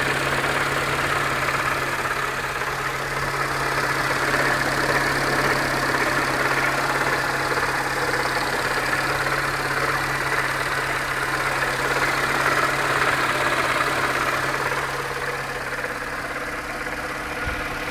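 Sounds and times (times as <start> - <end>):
car engine idling with knock: 0.0 - 17.9.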